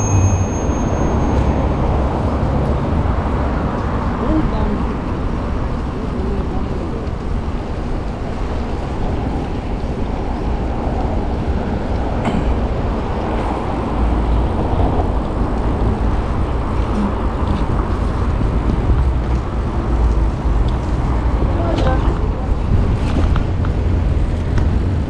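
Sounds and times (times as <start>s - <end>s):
rolling road noise: 0.0s - 25.0s
wind buffeting microphone: 0.0s - 25.0s.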